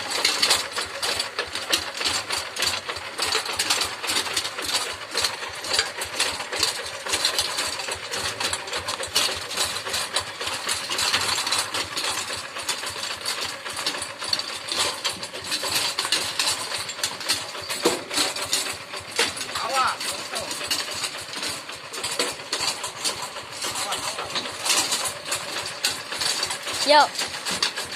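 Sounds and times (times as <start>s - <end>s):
tractor diesel engine clattering: 0.0s - 27.9s.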